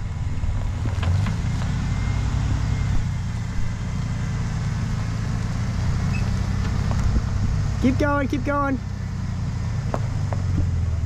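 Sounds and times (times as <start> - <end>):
truck engine running low: 0.0 - 11.0.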